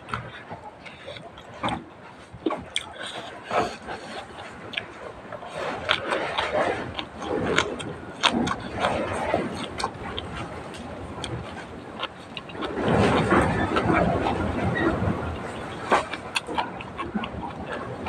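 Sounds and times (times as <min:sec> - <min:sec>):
person chewing and crunching food: 0:00.0 - 0:18.0.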